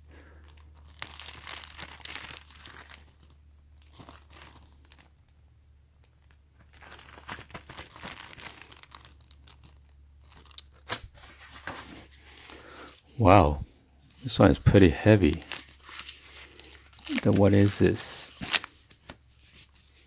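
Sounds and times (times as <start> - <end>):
plastic bag crinkling: 0.0 - 5.3, 6.0 - 13.1, 14.1 - 20.0.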